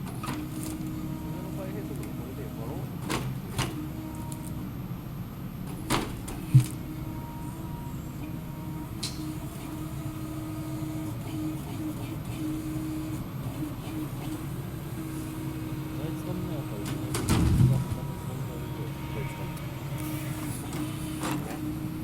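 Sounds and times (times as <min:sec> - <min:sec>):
harvester engine and hydraulics droning: 0:00.0 - 0:22.0.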